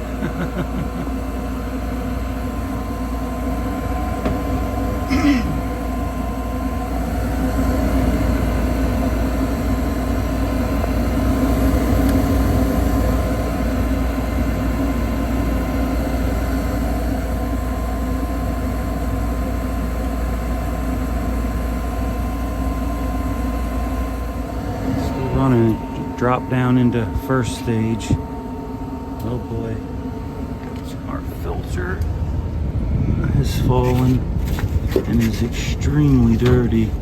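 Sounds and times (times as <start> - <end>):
gas furnace humming: 0.0 - 37.0.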